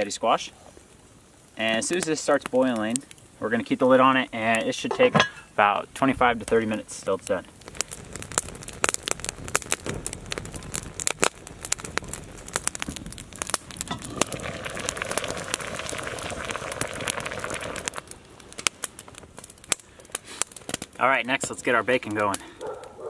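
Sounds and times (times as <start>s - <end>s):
steady hiss: 0.0s - 22.6s
campfire crackling and popping: 0.0s - 23.0s.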